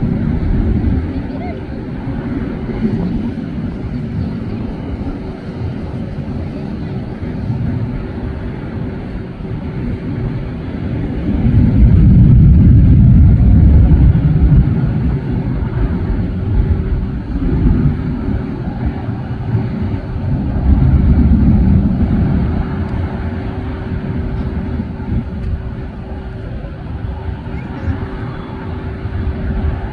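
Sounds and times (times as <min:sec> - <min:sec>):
faint steady hum: 0:00.0 - 0:29.9
jet engines rumbling: 0:00.0 - 0:29.9.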